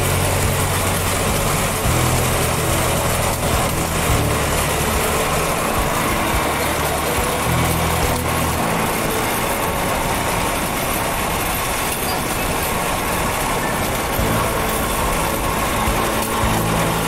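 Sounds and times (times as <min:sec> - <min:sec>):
rushing wind and road noise: 0:00.0 - 0:17.0
small engine running: 0:00.0 - 0:17.0.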